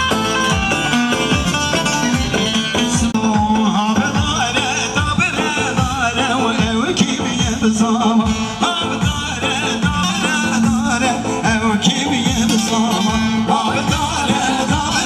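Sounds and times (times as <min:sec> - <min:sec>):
ornamented sung melody: 0:00.0 - 0:15.0
steady drum beat: 0:00.0 - 0:15.0.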